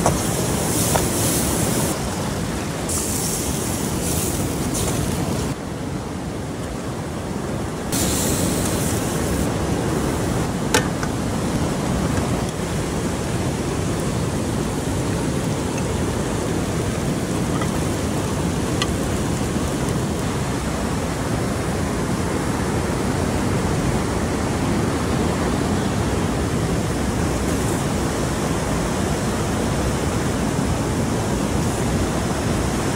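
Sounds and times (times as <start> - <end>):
river rushing over cascade: 0.0 - 32.9.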